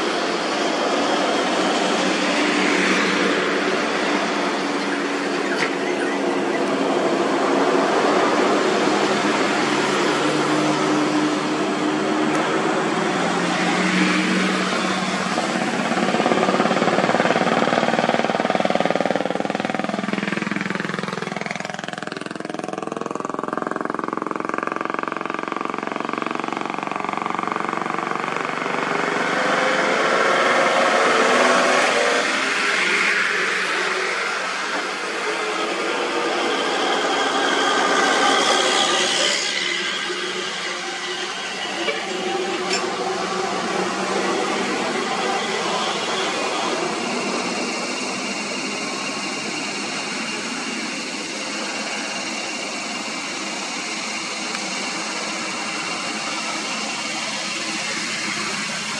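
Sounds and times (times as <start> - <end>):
vehicles passing: 0.0 - 58.9.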